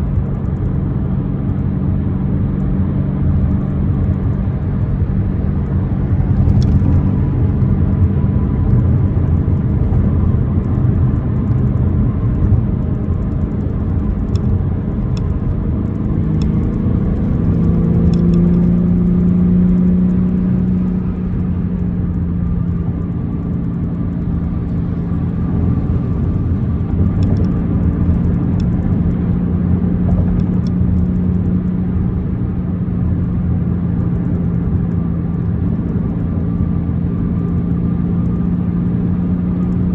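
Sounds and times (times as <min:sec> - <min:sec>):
car engine rumble while driving: 0:00.0 - 0:39.9
tyre and road noise: 0:00.0 - 0:39.9.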